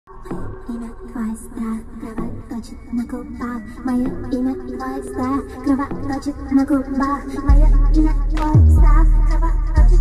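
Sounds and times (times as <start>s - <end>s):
song with steady beat: 0.1s - 10.0s.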